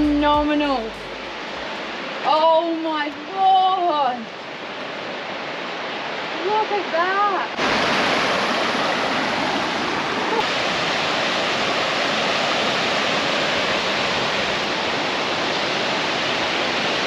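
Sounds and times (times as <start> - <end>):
waterfall rushing: 0.8 - 17.0.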